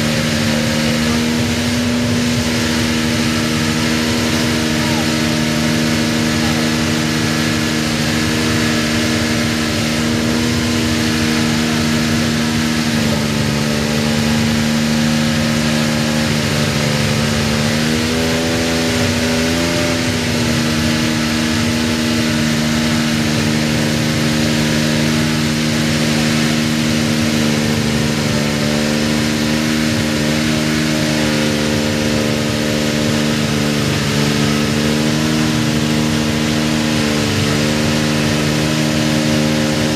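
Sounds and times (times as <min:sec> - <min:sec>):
racing car engine idling: 0:00.0 - 0:39.9.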